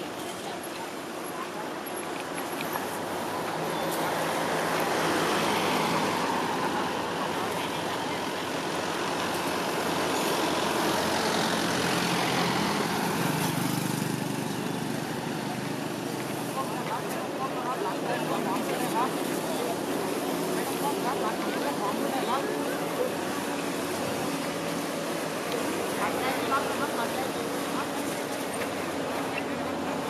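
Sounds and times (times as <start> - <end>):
vehicles passing on road: 0.0 - 30.0.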